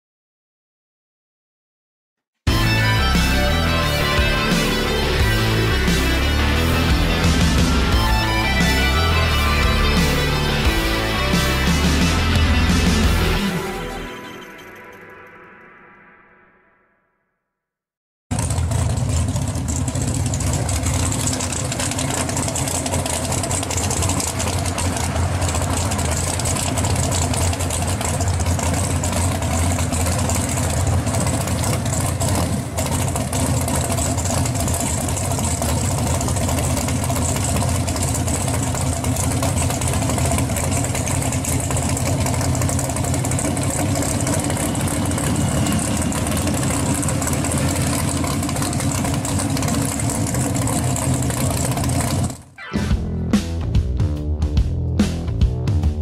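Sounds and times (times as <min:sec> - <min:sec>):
car engine idling: 0:02.5 - 0:14.1, 0:18.3 - 0:53.6.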